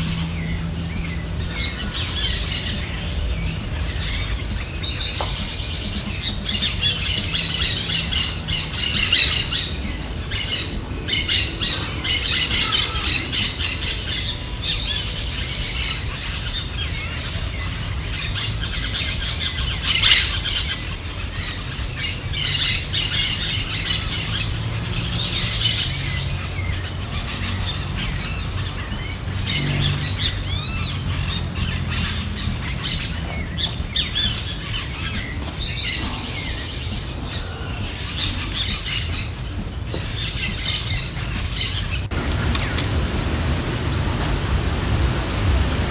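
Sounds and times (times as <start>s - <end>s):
nestling birds chirping: 0.0s - 45.9s
steady low rumble: 0.0s - 45.9s.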